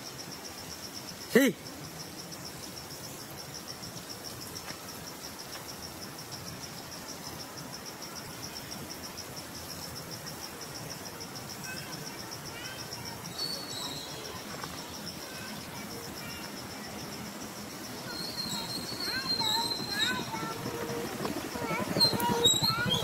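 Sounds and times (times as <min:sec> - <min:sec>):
insect trilling: 0:00.1 - 0:23.0.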